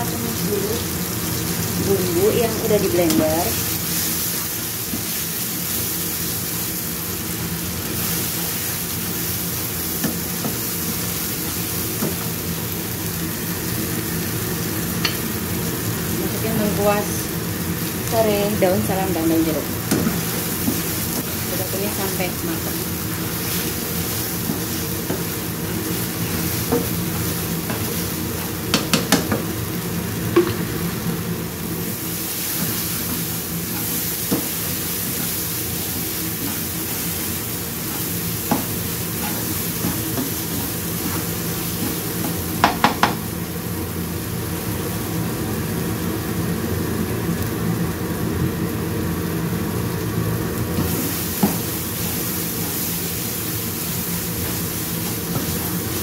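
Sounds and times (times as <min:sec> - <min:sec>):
spice paste sizzling in a wok: 0:00.0 - 0:56.0.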